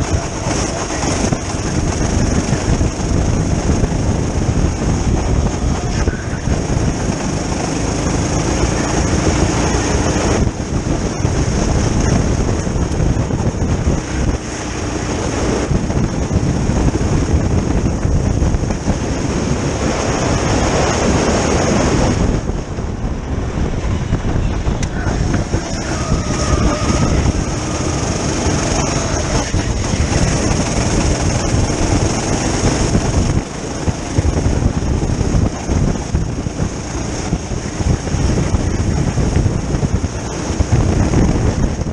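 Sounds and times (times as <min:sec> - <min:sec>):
go-kart engine running hard: 0:00.0 - 0:41.9
wind rush on microphone: 0:00.0 - 0:41.9.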